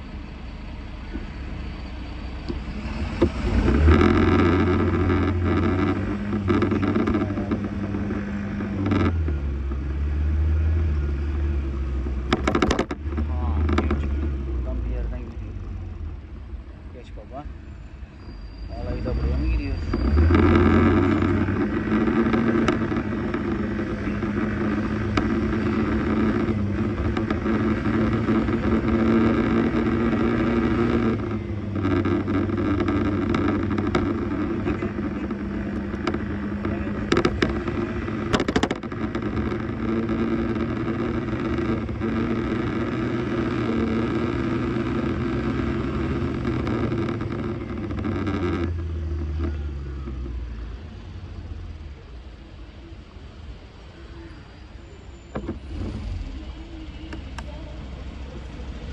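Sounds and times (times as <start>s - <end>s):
scooter engine running: 0.0s - 17.4s, 18.8s - 54.1s, 54.7s - 58.9s
road and wind noise: 0.0s - 58.9s.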